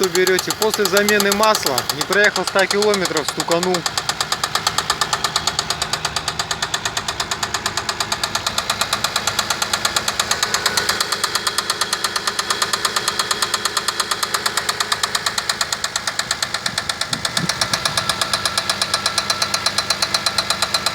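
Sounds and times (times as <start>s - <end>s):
engine running with metallic knock: 0.0s - 20.9s.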